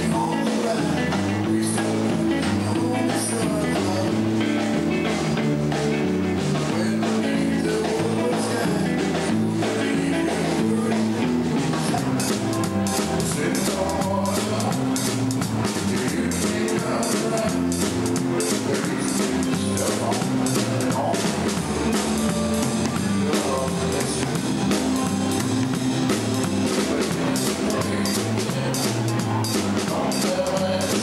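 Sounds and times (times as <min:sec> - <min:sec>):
drum kit: 0:00.0 - 0:31.0
electric guitars: 0:00.0 - 0:31.0.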